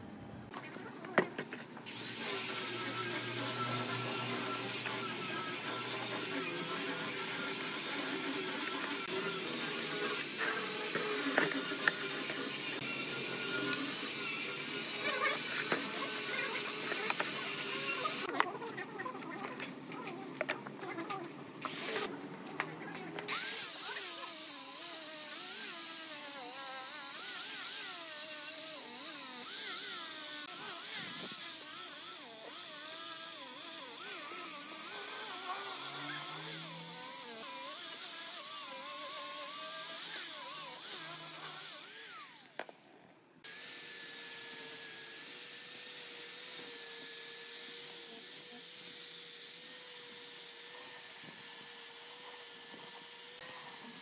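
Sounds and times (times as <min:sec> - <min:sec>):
rotary tool grinding metal: 0:00.5 - 0:54.0.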